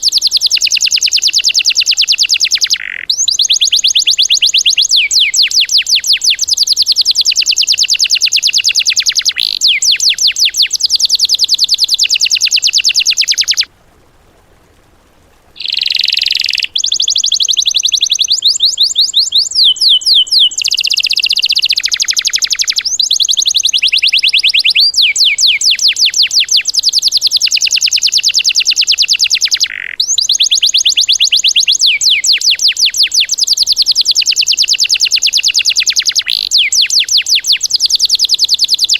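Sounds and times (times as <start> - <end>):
songbird rapid trills: 0.0 - 13.7, 15.6 - 38.9.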